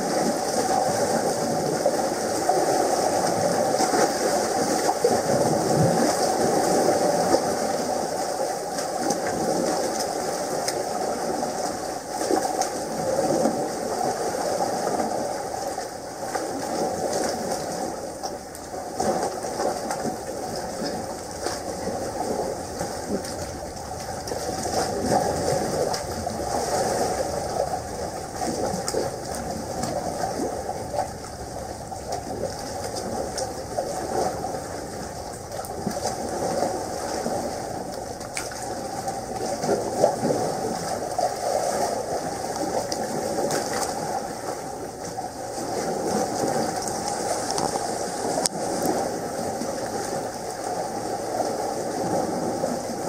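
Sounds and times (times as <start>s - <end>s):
water rushing through rock gully: 0.0s - 53.0s.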